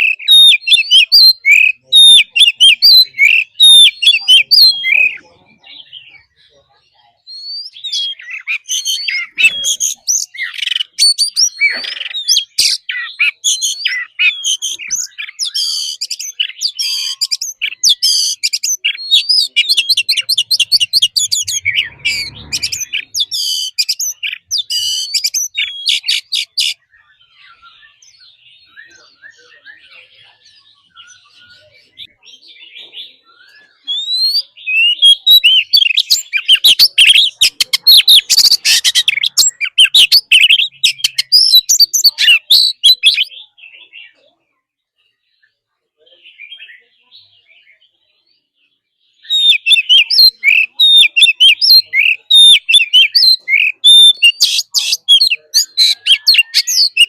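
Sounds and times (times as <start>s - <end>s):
bird singing whistles and trills: 0.0s - 6.6s, 7.2s - 44.2s, 46.3s - 57.0s.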